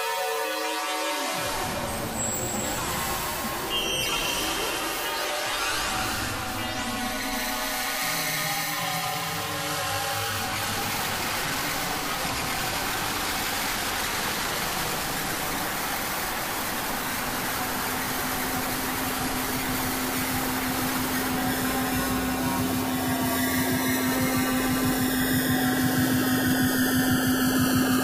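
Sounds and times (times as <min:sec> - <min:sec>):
electronic drone ambient music: 0:01.2 - 0:28.0.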